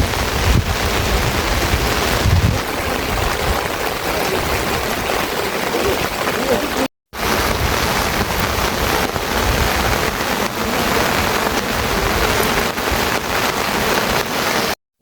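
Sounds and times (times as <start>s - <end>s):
heavy rain falling: 0.0s - 14.8s.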